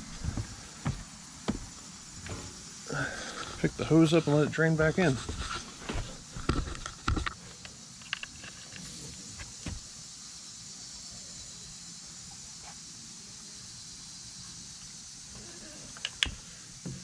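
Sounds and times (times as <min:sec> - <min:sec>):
faint outdoor background hiss: 0:00.0 - 0:17.0.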